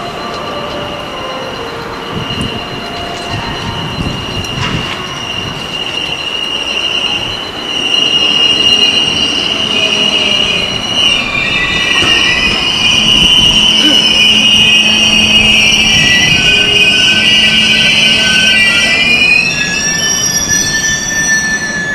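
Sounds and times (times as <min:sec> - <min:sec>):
electric train pulling in: 0:00.0 - 0:21.9
high-pitched brake squeal: 0:00.0 - 0:21.9.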